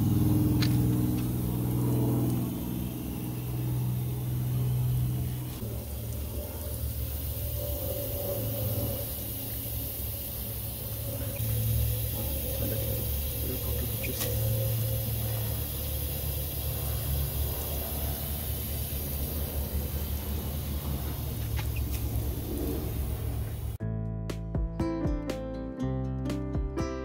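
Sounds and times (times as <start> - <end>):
continuous low rumble: 0.0 - 23.8
water spraying onto wooden deck: 0.0 - 23.8.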